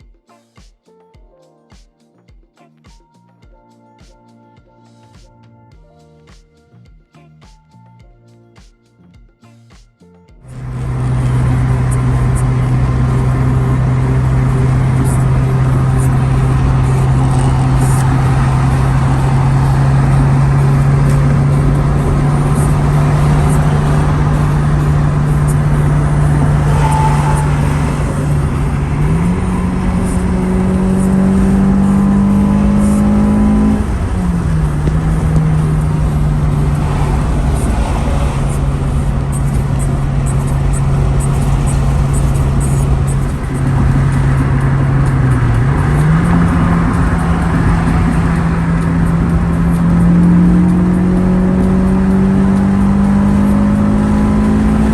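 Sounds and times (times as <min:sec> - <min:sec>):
car engine accelerating: 0:10.5 - 0:54.9.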